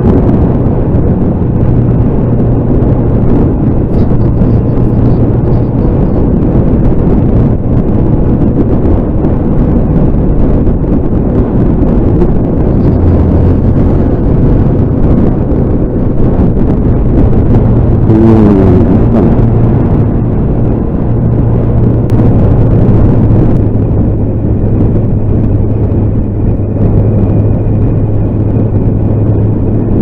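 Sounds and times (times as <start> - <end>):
motorcycle engine hum: 0.0 - 30.0
wind buffeting microphone: 0.0 - 30.0.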